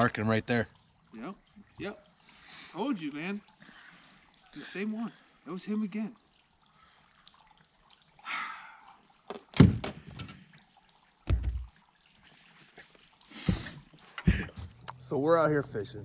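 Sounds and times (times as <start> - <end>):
faint water sounds: 0.0 - 16.0.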